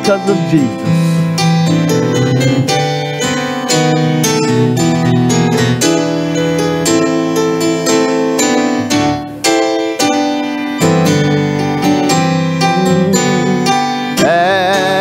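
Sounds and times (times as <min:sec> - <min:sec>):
keyboard playing hymn chords: 0:00.0 - 0:15.0.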